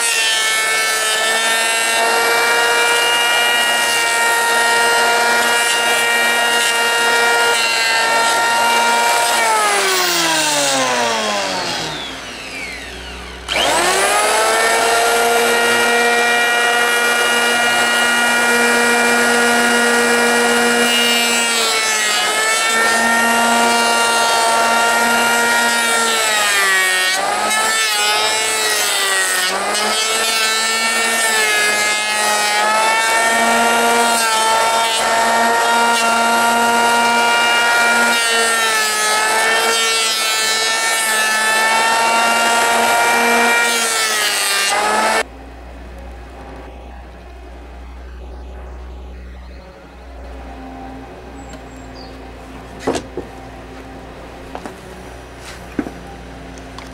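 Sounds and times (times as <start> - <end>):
electric hand planer whine: 0.0 - 56.9.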